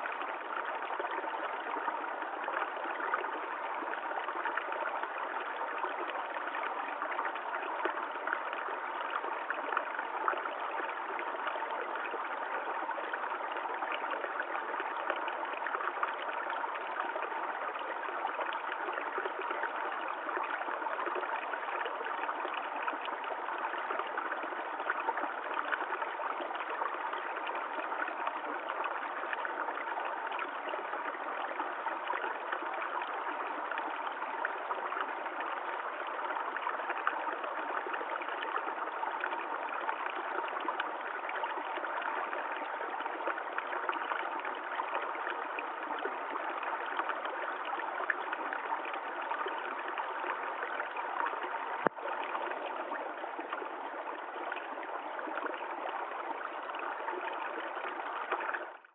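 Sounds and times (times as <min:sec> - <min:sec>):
stream flowing over stones: 0:00.0 - 0:58.9.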